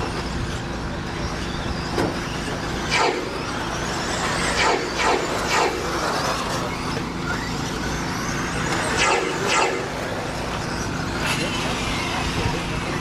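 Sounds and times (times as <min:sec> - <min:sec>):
rc truck motors whining: 0:00.0 - 0:13.0.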